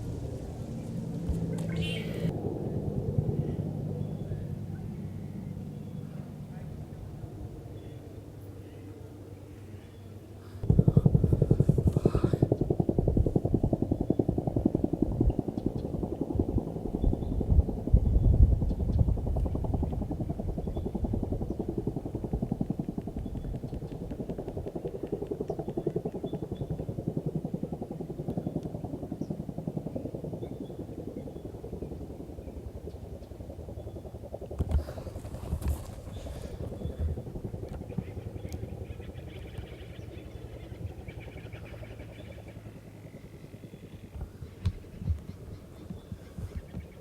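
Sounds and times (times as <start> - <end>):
helicopter rotor chopping: 0.0 - 9.5, 10.2 - 47.0.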